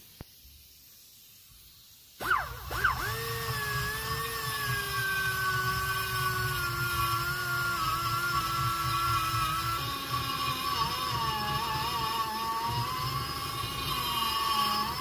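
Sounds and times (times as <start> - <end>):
burr grinding metal rasp: 2.2 - 15.0
die grinder whining: 2.2 - 15.0.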